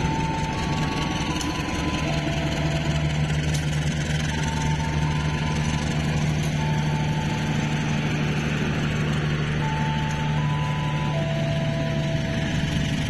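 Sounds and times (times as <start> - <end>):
train carriages rolling past: 0.0 - 13.0.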